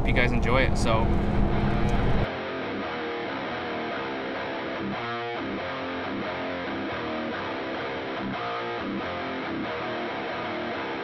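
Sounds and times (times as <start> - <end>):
guitar music: 1.2 - 11.0.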